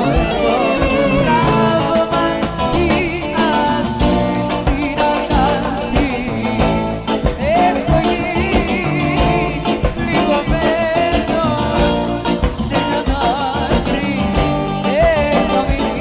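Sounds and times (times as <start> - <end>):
guitar: 0.0 - 16.0
person singing: 0.0 - 16.0
steady drum beat: 0.0 - 16.0.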